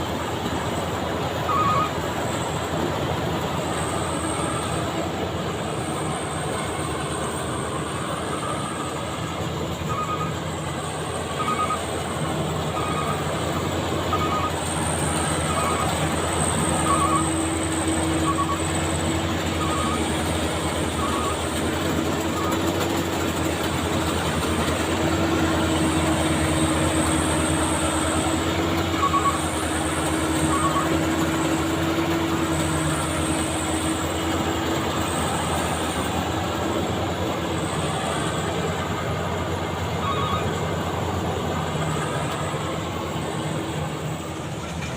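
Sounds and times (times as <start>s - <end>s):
combine harvester running: 0.0s - 44.9s
high mechanical whine: 0.0s - 44.9s.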